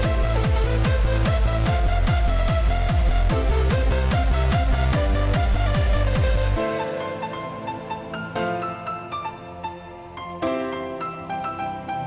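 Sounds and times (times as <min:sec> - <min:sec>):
keyboard melody: 0:00.0 - 0:12.0.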